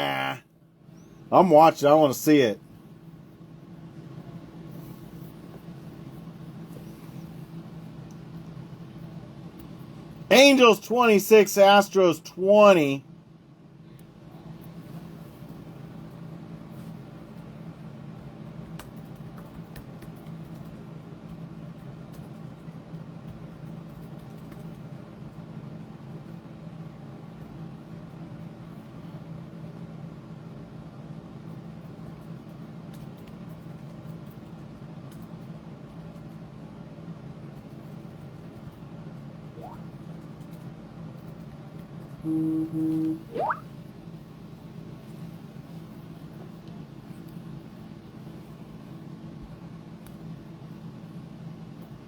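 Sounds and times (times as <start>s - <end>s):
low room hum: 0.0s - 52.0s.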